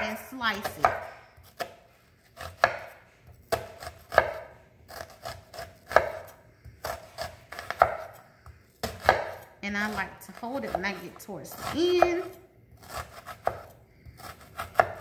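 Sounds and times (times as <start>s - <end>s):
knife slicing onion: 0.0s - 15.0s.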